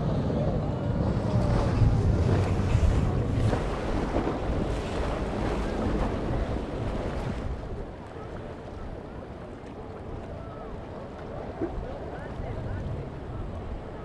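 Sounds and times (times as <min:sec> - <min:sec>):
choppy water: 0:00.0 - 0:14.0
outboard engines running: 0:00.0 - 0:14.0
wind buffeting microphone: 0:00.0 - 0:14.0.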